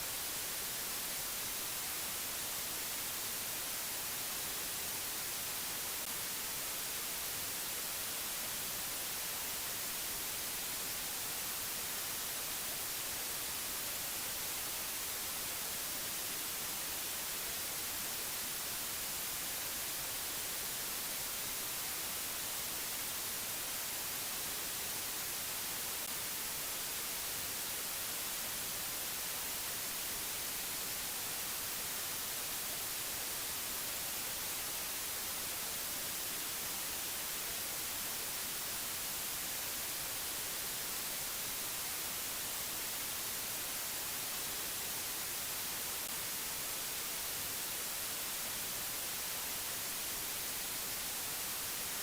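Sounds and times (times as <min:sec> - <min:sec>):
steady bright hiss: 0:00.0 - 0:52.0.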